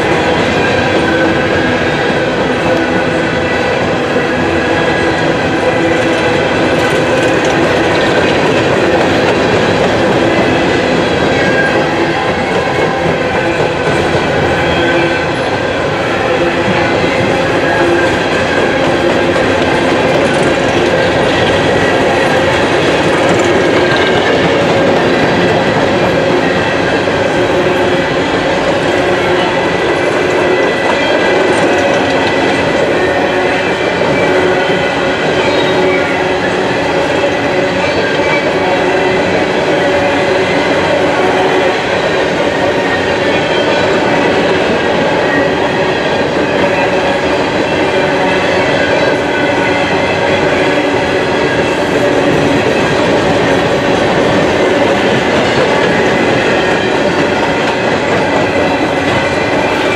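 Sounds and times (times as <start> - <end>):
steel wheels rattling on rails: 0.0 - 59.9.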